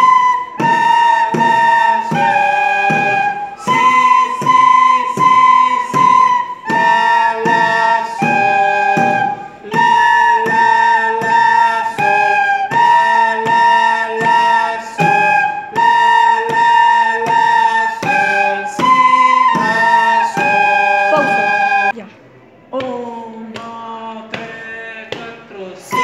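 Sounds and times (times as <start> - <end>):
plastic recorders playing: 0.0 - 22.0.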